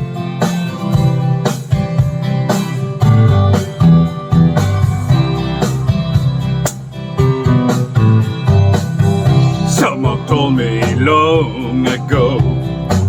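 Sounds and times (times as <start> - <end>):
strummed guitar over a beat: 0.0 - 13.0.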